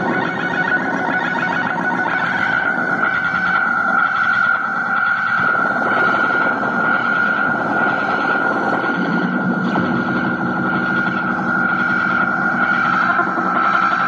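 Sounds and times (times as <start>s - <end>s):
electronic synth drone: 0.0s - 14.0s
lower electronic hum: 0.0s - 14.0s.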